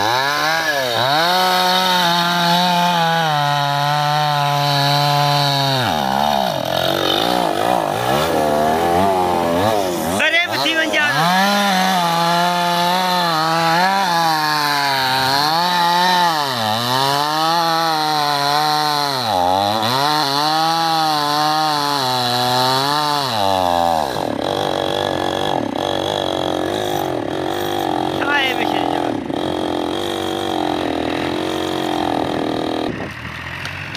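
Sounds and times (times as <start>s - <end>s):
chainsaw cutting tree trunk: 0.0s - 33.9s.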